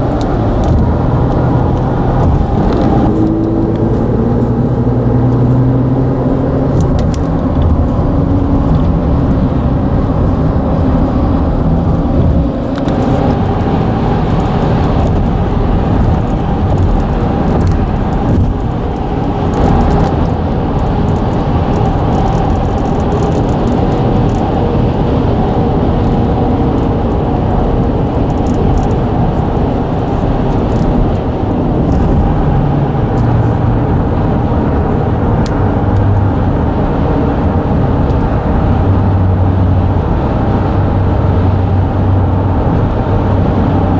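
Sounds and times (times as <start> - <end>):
traffic rumble on road bridge: 0.0 - 43.9.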